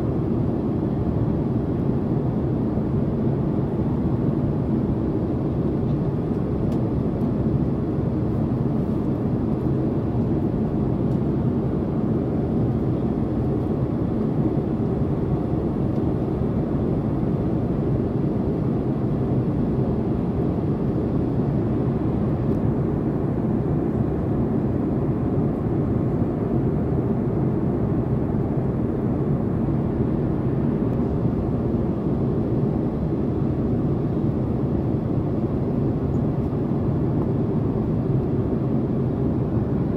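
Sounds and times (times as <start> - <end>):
airplane cabin jet engine rush: 0.0 - 39.9.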